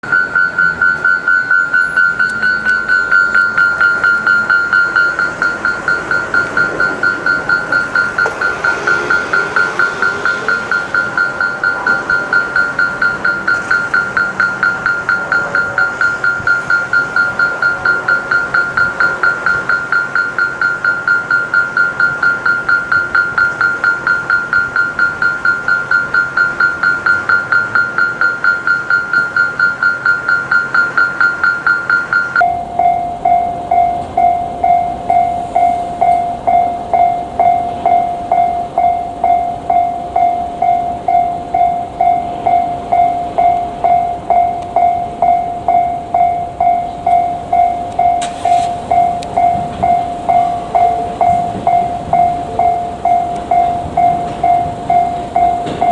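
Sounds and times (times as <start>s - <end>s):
level crossing warning bell: 0.0s - 55.9s.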